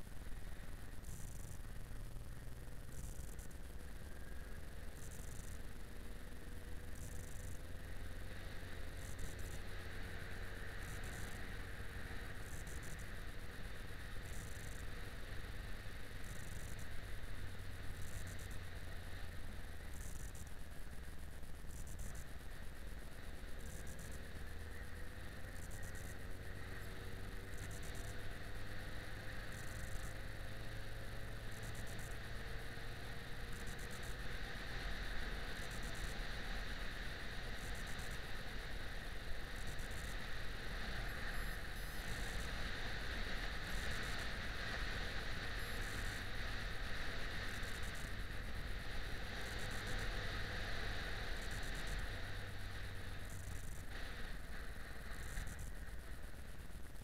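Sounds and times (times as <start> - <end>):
faint pulsing high hiss: 0.0 - 57.0
motorcycle engine running: 0.0 - 57.0
wind and road noise: 0.0 - 57.0.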